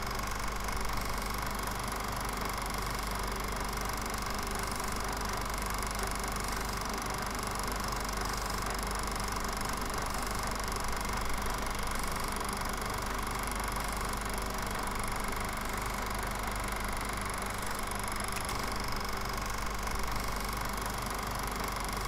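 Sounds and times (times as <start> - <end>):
film projector whirring: 0.0 - 22.0.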